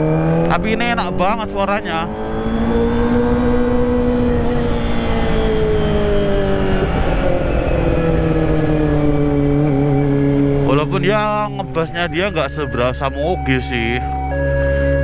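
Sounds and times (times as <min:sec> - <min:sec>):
motorcycle engine at high revs: 0:00.0 - 0:12.2.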